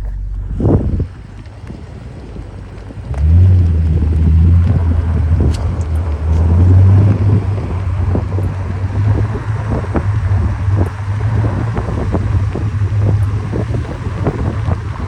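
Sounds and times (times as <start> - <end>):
car engine revving: 0.0 - 15.0
faint clicks: 1.1 - 15.0.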